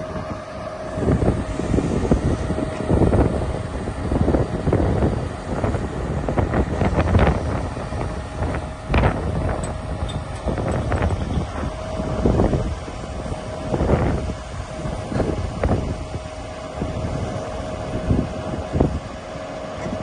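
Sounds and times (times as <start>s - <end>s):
faint steady whine: 0.0s - 20.0s
truck engine running: 0.0s - 20.0s
wind on microphone: 0.0s - 20.0s.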